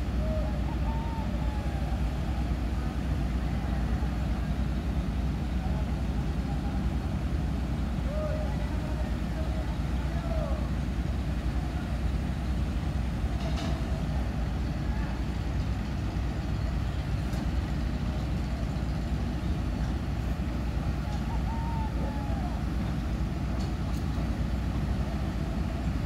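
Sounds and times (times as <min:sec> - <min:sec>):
crane diesel engines rumbling: 0:00.0 - 0:26.0.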